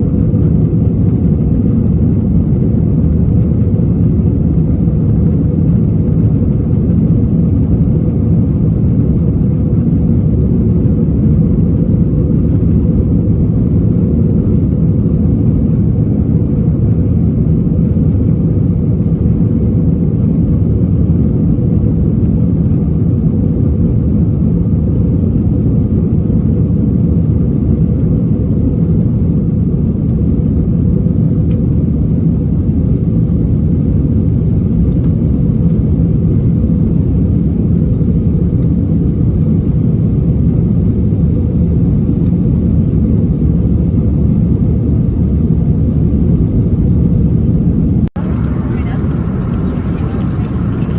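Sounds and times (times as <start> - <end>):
airliner cabin engine drone: 0.0 - 50.9.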